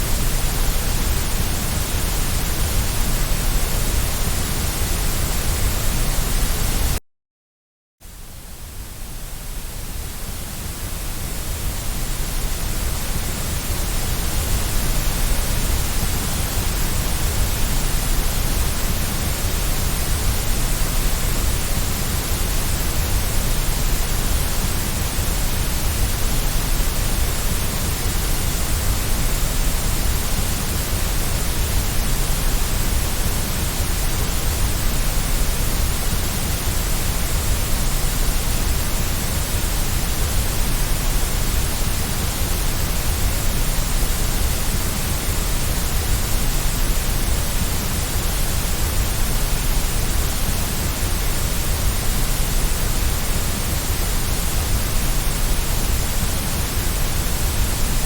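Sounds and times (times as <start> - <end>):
steady white noise hiss: 0.0 - 7.0, 8.0 - 58.0.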